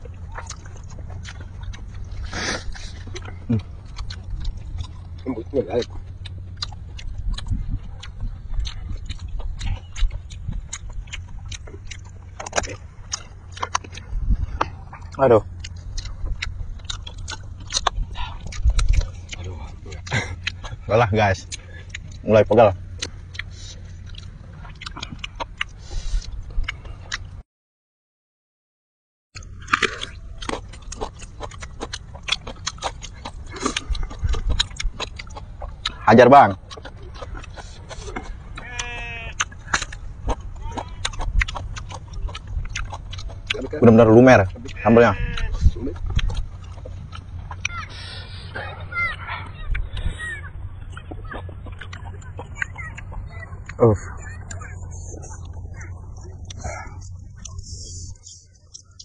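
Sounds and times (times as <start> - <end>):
steady low rumble: 0.0 - 27.4, 29.4 - 59.0
wet chewing mouth clicks: 0.0 - 27.4, 29.4 - 59.0.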